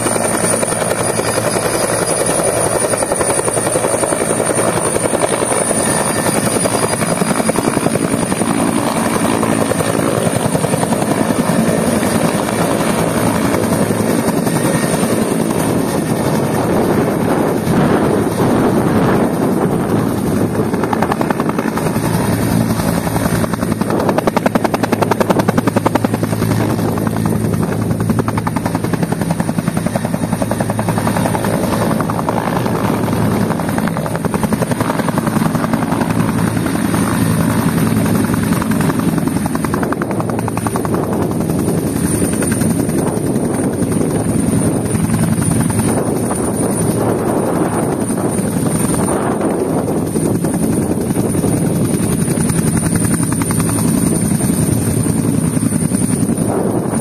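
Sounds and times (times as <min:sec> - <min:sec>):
helicopter rotor beating: 0:00.0 - 0:57.0
high turbine engine whine: 0:00.0 - 0:57.0.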